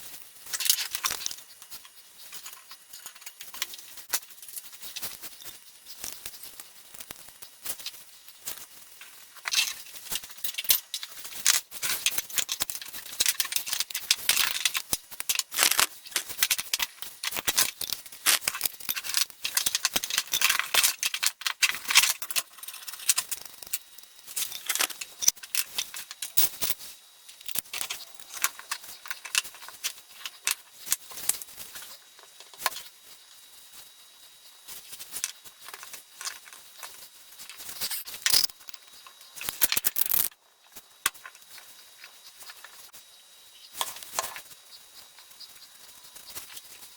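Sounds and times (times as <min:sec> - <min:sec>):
clicks scrapes and rattles: 0:00.5 - 0:32.9, 0:34.8 - 0:40.4.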